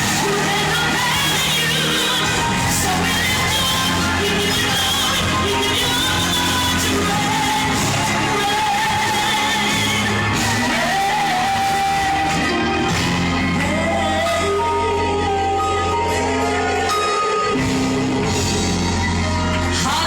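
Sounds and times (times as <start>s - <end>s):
band accompaniment: 0.0s - 20.0s
woman singing gospel: 0.0s - 20.0s.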